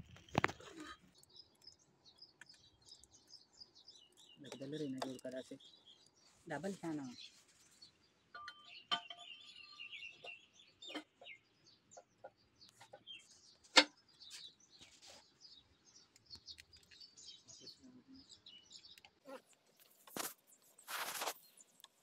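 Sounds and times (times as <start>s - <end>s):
bird calls and chirps: 0.0s - 22.0s.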